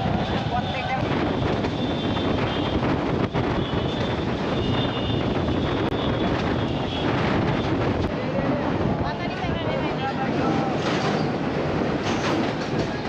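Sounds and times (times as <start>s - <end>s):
train rumbling on track: 0.0s - 13.0s
wind on microphone: 0.0s - 13.0s.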